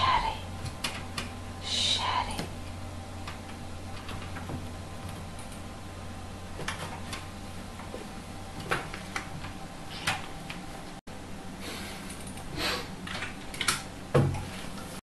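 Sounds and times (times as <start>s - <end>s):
low hum: 0.0s - 12.4s.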